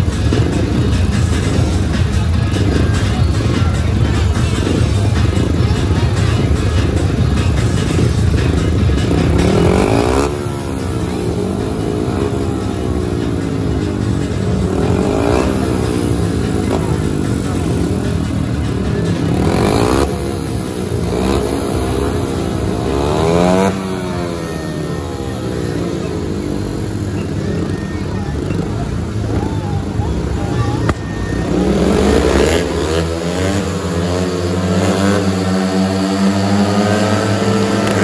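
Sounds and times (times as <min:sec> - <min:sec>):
motorcycles revving: 0:00.0 - 0:38.0.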